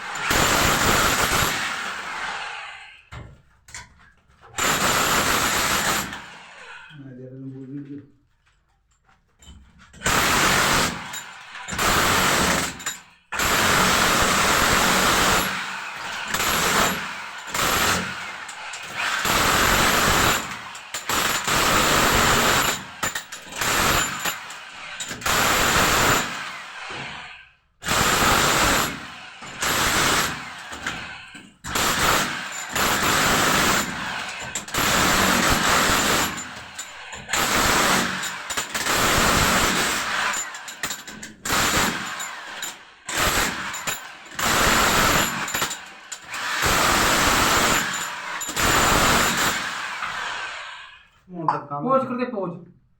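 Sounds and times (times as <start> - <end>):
electric power drill: 0.0 - 3.1, 4.6 - 7.0, 10.0 - 51.2.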